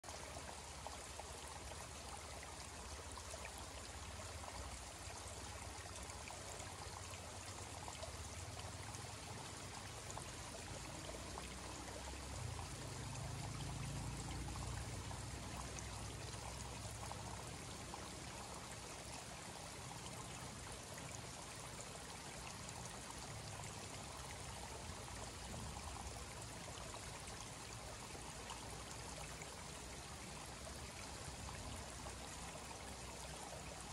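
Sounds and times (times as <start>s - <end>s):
creek trickling: 0.0s - 33.9s.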